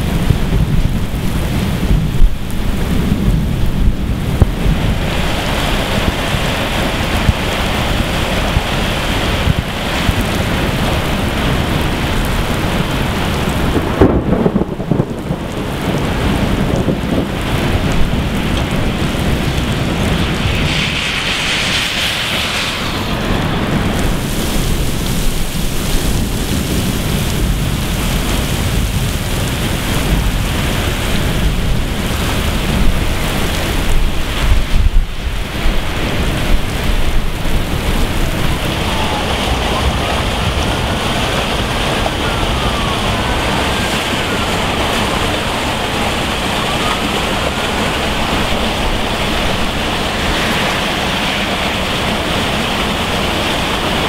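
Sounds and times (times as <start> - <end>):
heavy rain pouring: 0.0 - 54.0
low rumbling: 0.0 - 54.0
runoff pouring into street drain: 0.0 - 54.0.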